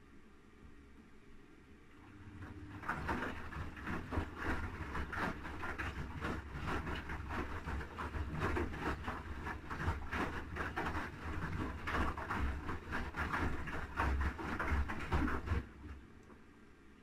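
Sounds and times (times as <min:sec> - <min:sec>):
washing machine drum hum: 0:01.9 - 0:16.5
water and laundry sloshing: 0:02.0 - 0:16.2.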